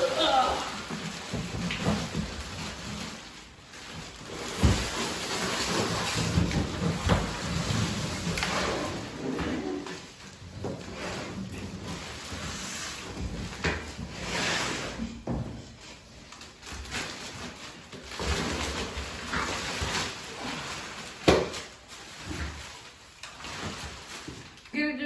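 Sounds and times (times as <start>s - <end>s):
cardboard and plastic rustling: 0.0s - 24.8s.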